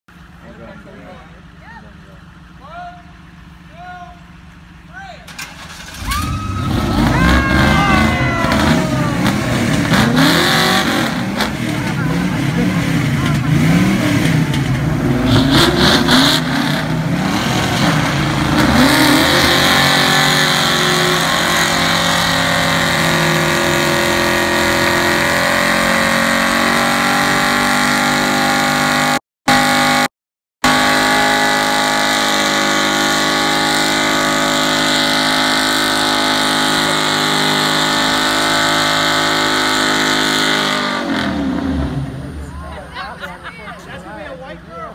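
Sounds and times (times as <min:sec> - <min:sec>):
car engine revving: 0:05.4 - 0:43.0.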